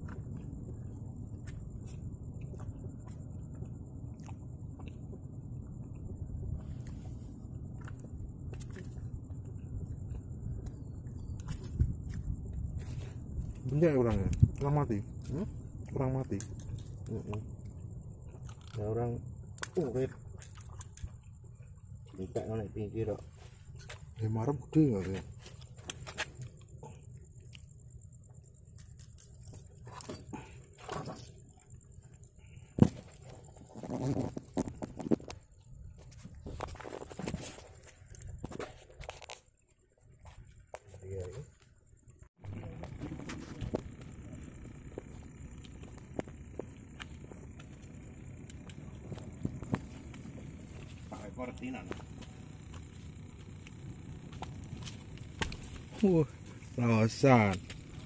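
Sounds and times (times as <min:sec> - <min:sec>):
low steady rumble: 0:00.0 - 0:38.5, 0:41.2 - 0:58.0
low steady hum: 0:00.0 - 0:58.0
sharp ticks and scrapes: 0:07.6 - 0:41.8, 0:42.6 - 0:58.0.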